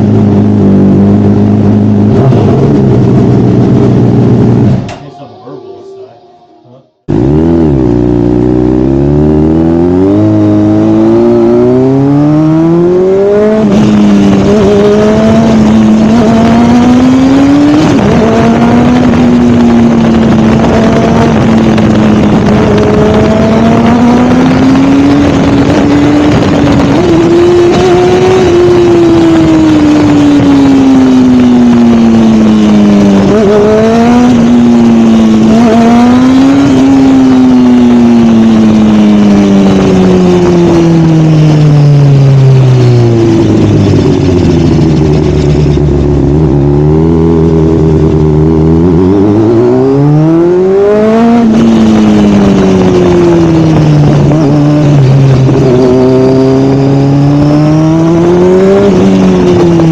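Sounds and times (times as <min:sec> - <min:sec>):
sportbike engine accelerating: 0:00.0 - 0:05.2, 0:06.9 - 0:59.9.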